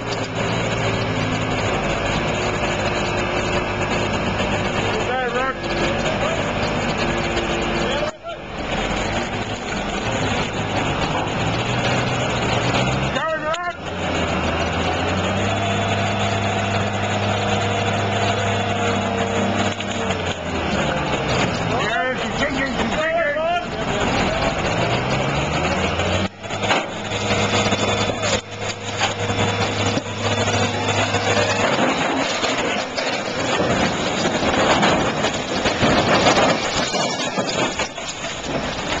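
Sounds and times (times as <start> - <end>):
crane crashing and scraping metal: 0.0 - 39.0
falling earth and debris: 0.0 - 39.0
heavy diesel engine running: 0.0 - 39.0.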